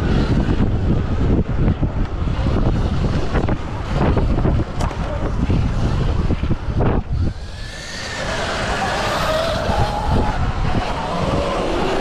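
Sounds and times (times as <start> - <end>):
heavy wind buffeting microphone: 0.0 - 12.0.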